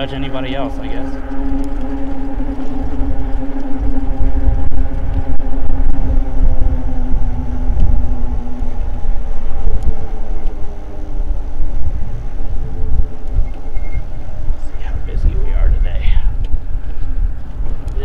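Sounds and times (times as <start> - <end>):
electric motor and tyres humming: 0.0 - 18.0
wind buffeting microphone: 0.0 - 18.0.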